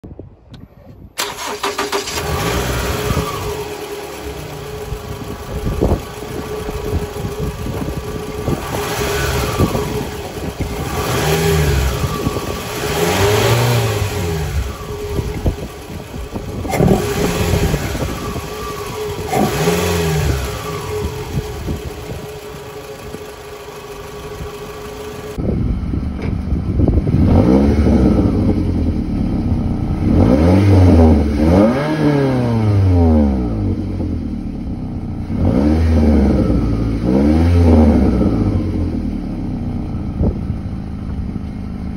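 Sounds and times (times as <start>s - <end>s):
car engine revving: 1.2s - 25.4s, 26.6s - 40.4s.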